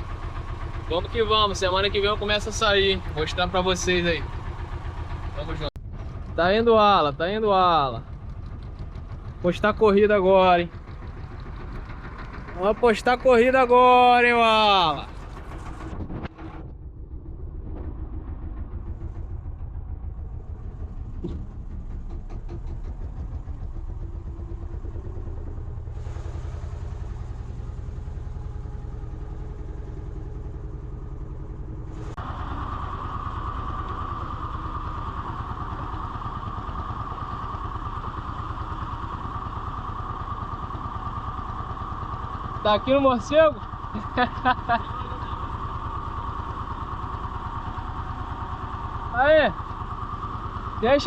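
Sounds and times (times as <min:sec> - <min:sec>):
boat engine running: 0:00.0 - 0:51.0
steady whine: 0:00.0 - 0:51.0.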